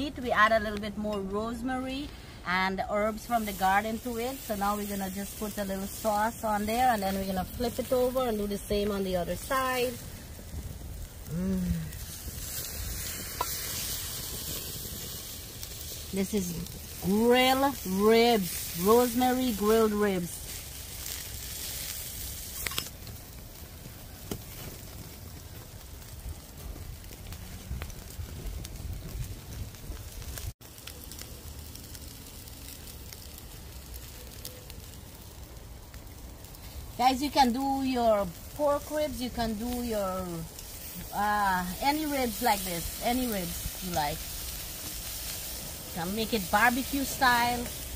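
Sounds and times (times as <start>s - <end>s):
fire crackling and popping: 0.0s - 47.9s
ribs sizzling on a grill: 0.0s - 47.9s.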